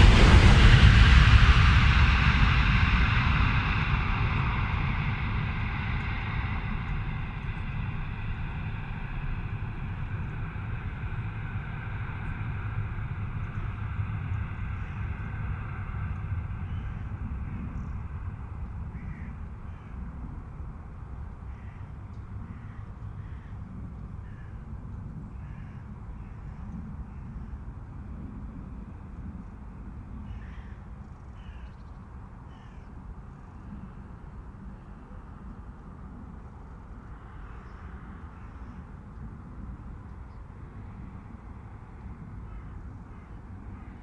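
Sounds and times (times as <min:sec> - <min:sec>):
high-speed train rumble: 0:00.0 - 0:26.6, 0:33.6 - 0:44.0.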